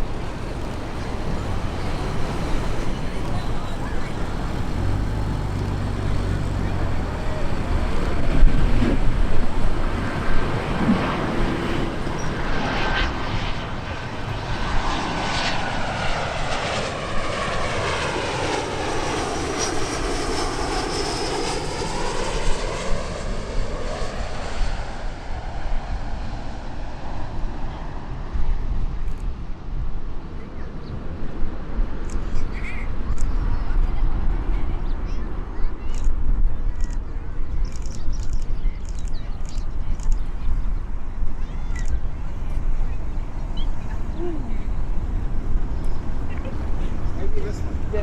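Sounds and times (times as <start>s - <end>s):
jet airliner passing overhead: 0.0s - 48.0s.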